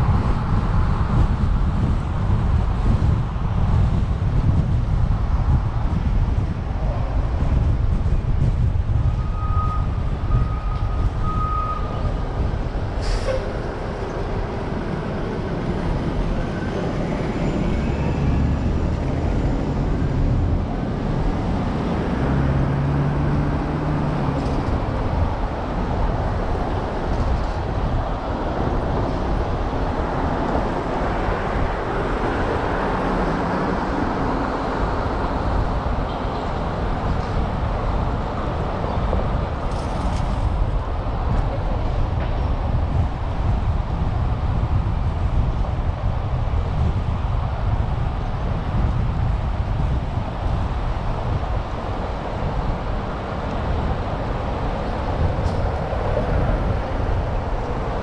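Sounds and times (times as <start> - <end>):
street traffic: 0.0 - 58.0.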